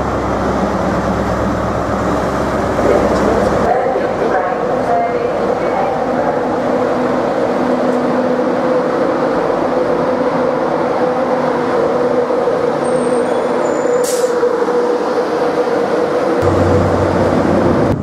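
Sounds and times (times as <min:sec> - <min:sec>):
electric locomotive humming: 0:00.0 - 0:18.0.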